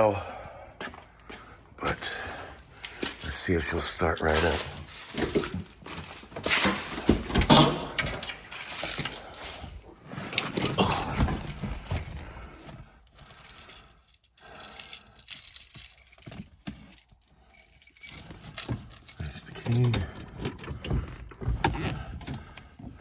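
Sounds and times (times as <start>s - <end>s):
keys jangling: 2.6s - 22.8s.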